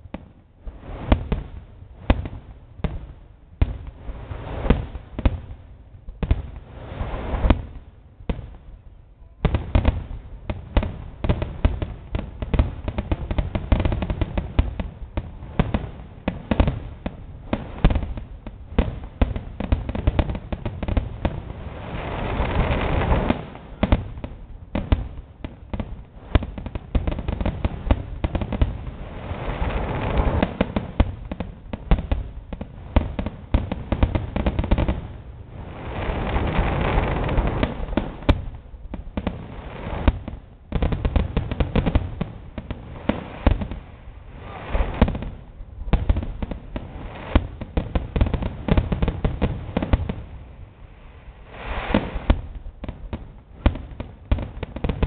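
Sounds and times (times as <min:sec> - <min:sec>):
dense fireworks crackling: 0:00.0 - 0:55.0
fireworks bursting with sharp bangs: 0:00.0 - 0:55.0.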